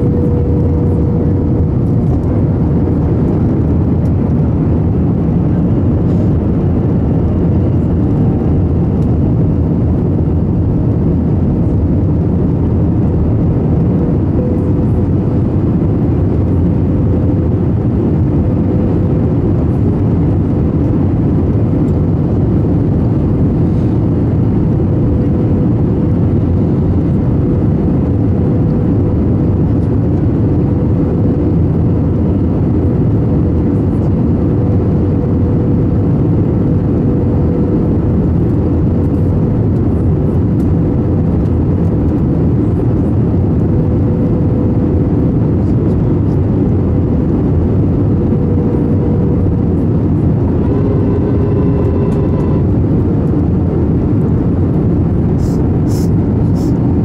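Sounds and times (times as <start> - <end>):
airliner engines and airflow rumble: 0.0 - 57.0
steady humming note: 0.0 - 57.0.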